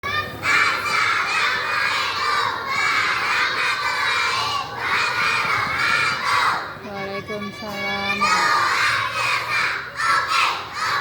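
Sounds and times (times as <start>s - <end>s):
children singing loudly: 0.0s - 11.0s.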